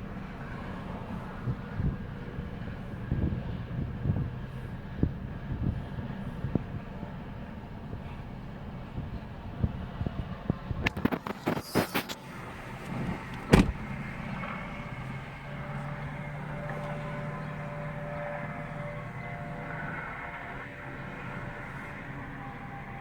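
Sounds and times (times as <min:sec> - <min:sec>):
car road and engine noise: 0:00.0 - 0:23.0
low hum: 0:00.0 - 0:23.0.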